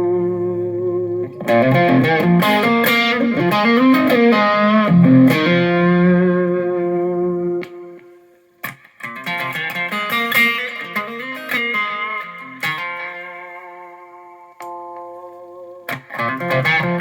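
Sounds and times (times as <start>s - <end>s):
electric guitar playing: 0.0s - 17.0s.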